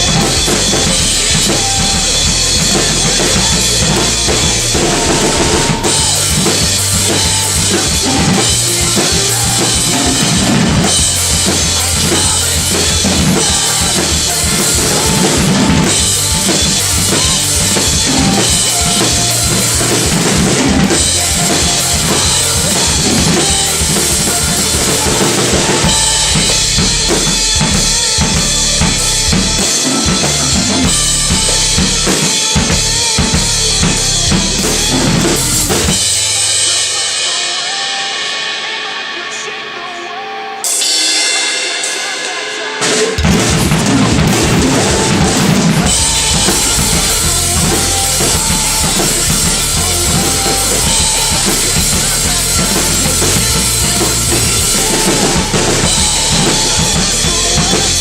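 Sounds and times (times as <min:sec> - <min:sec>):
rapid bass drum and snare hits: 0:00.0 - 0:37.4, 0:41.8 - 0:58.0
cymbals crashing: 0:00.0 - 0:58.0
metalcore music: 0:00.0 - 0:58.0.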